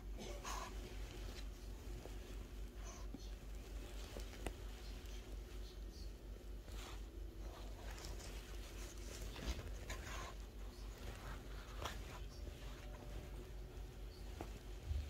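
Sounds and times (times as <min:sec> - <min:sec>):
faint cloth rustling: 0:00.0 - 0:15.0.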